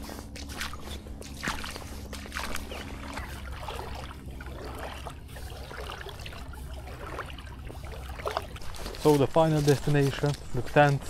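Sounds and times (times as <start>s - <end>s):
boots wading through water: 0.0s - 11.0s.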